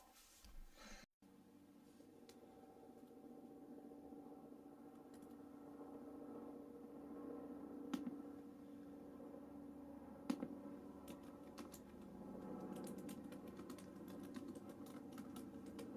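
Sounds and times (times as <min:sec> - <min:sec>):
steady low hum: 0:00.5 - 0:15.9.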